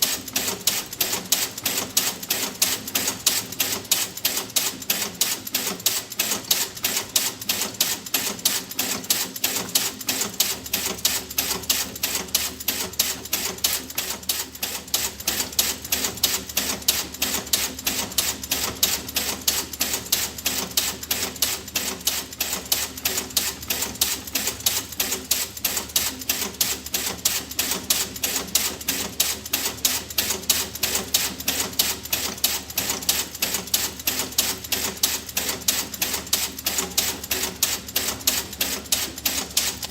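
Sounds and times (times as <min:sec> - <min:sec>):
rapid mechanical ticking: 0:00.0 - 0:39.9.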